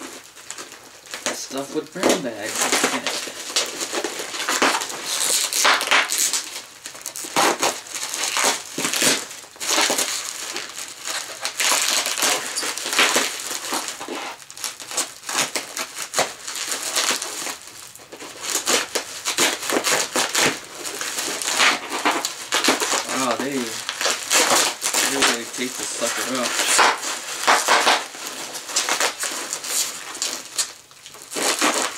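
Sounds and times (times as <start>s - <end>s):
knife cutting plastic: 0.0s - 31.9s
plastic wrap crinkling: 0.0s - 31.9s.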